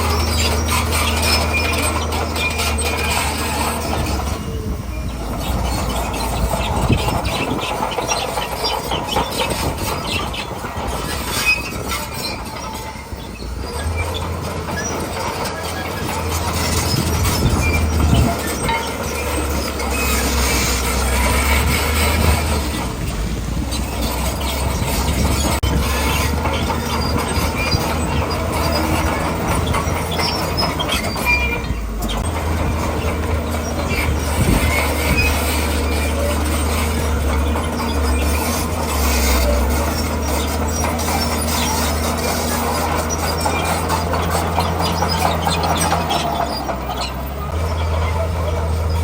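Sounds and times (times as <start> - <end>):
bulldozer diesel engine droning: 0.0 - 49.0
steel tracks clanking and squealing: 0.0 - 49.0.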